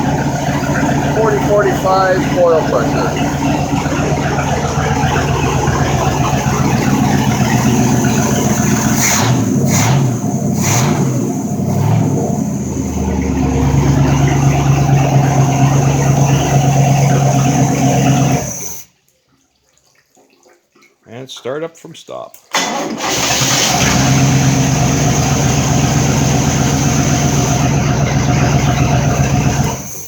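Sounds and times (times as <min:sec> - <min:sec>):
boat engine revving: 0:00.0 - 0:18.8, 0:22.6 - 0:30.0.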